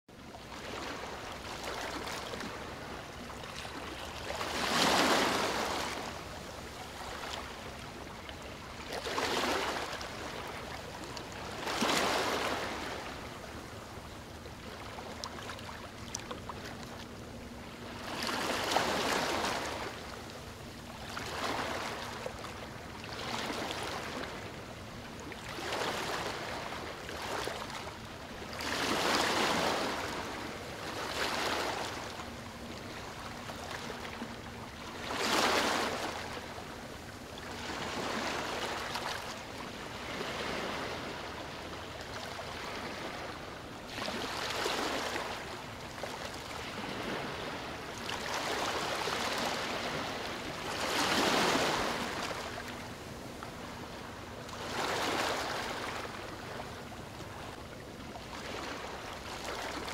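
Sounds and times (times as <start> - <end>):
small waves lapping on beach: 0.1 - 59.9.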